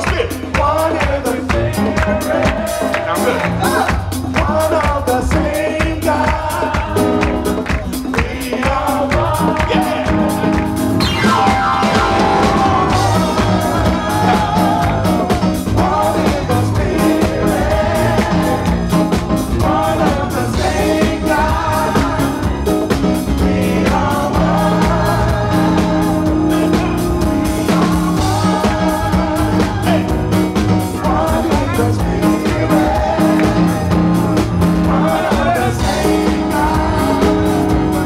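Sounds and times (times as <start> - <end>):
live band playing a song: 0.0 - 38.0.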